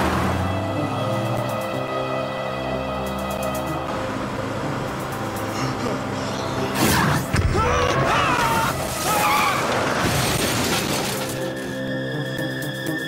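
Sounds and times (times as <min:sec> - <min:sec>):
tense background music: 0:00.0 - 0:13.0.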